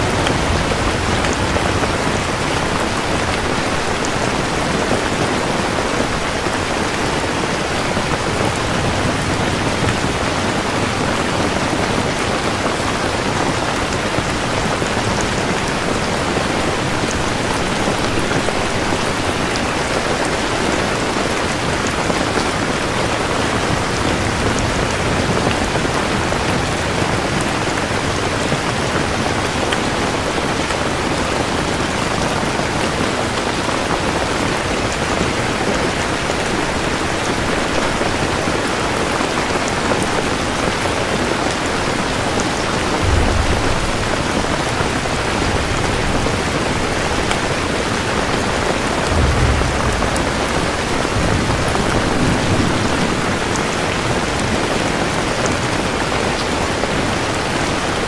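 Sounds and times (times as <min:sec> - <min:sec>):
thunder rumbling: 0:00.0 - 0:33.0, 0:39.7 - 0:56.1
heavy rain falling: 0:00.0 - 0:58.0.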